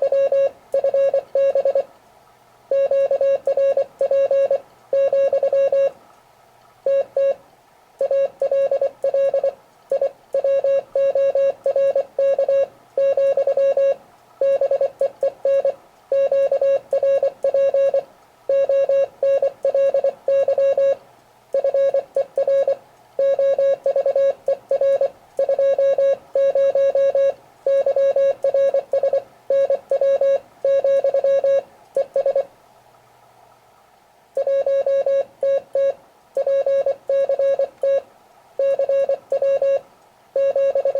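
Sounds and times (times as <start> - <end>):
morse code beeps: 0.0 - 1.9, 2.7 - 6.0, 6.9 - 7.4, 8.0 - 21.0, 21.6 - 32.5, 34.4 - 39.8, 40.4 - 40.9.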